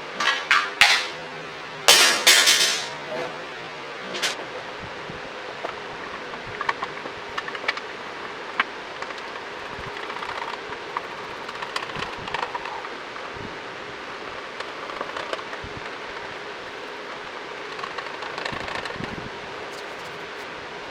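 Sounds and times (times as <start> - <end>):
steady background hiss: 0.0 - 20.9.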